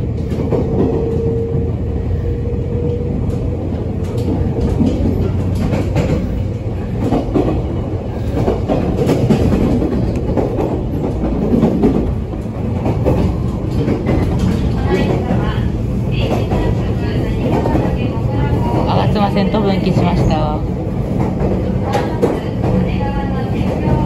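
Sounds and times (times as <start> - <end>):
train running at speed: 0.0 - 24.0.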